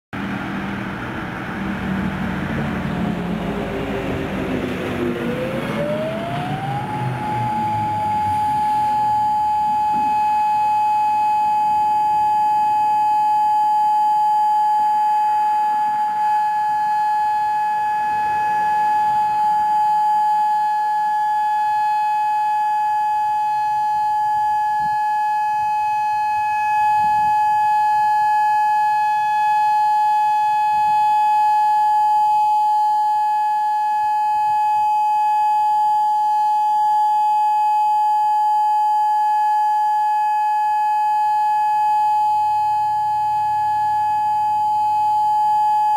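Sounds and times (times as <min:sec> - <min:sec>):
tornado siren steady tone: 0:00.2 - 0:45.9.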